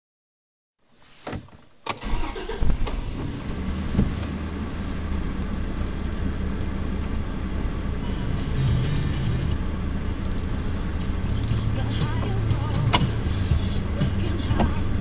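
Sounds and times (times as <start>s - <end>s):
car engine idling: 1.7s - 15.0s.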